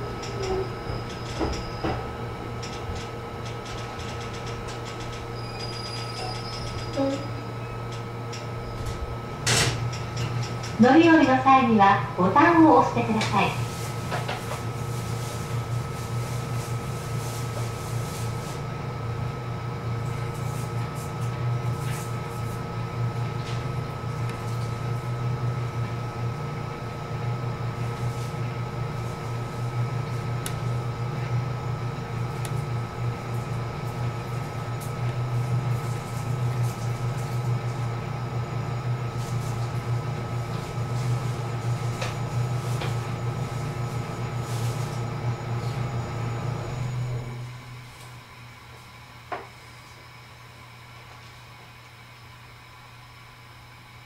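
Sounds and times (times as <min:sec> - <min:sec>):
electric train equipment humming: 0:00.0 - 0:54.0.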